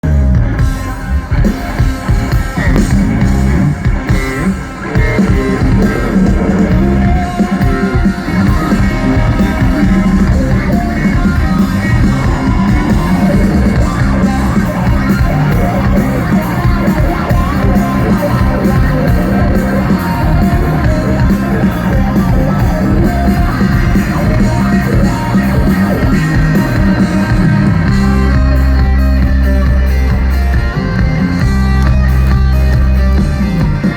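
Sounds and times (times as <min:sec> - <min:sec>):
rock band playing live: 0:00.0 - 0:33.9.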